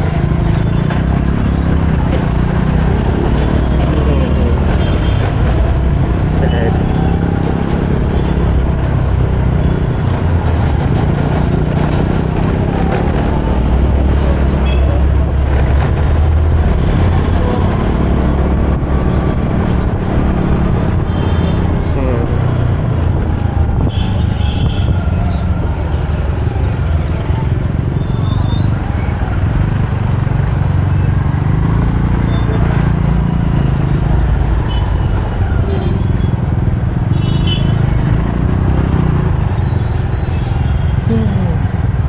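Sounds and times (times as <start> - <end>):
motorbike engine noise: 0.0 - 42.0
road noise: 0.0 - 42.0
road traffic rumble: 0.0 - 42.0.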